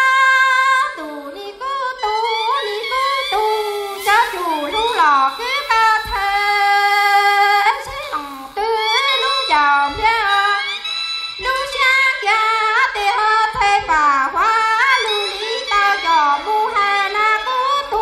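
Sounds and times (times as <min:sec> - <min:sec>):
woman singing into microphone: 0:00.0 - 0:18.0.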